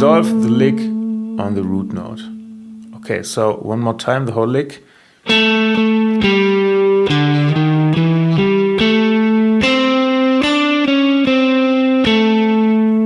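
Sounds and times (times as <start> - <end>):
electric guitar lick: 0.0 - 3.2, 5.2 - 13.0.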